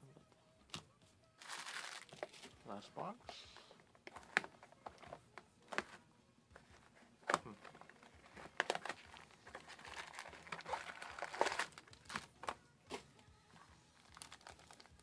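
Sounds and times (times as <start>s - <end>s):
plastic and foil packs crinkling: 1.4s - 6.0s, 6.6s - 15.0s.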